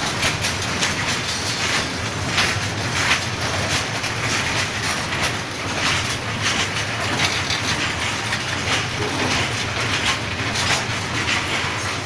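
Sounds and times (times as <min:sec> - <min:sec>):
freight wagon wheels rumbling on rail: 0:00.0 - 0:12.0
wheels clattering over rail joints: 0:00.0 - 0:12.0.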